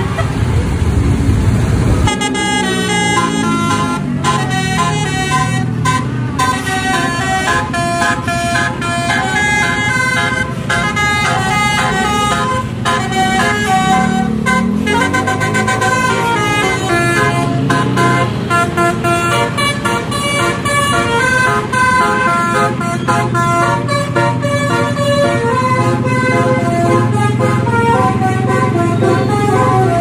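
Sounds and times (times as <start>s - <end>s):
bus engine running: 0.0s - 30.0s
multi-tone bus horn melody: 2.0s - 30.0s.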